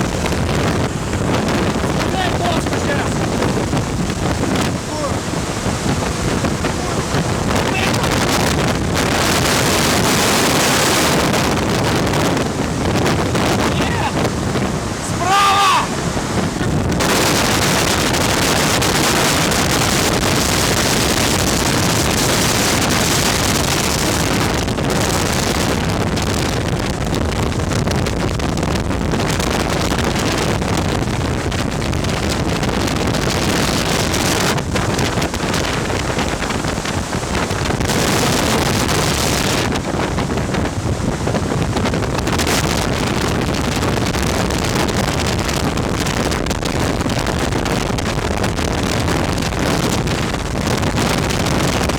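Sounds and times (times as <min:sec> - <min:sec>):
ventilation fan air rush: 0:00.0 - 0:51.9
wind buffeting microphone: 0:00.0 - 0:51.9.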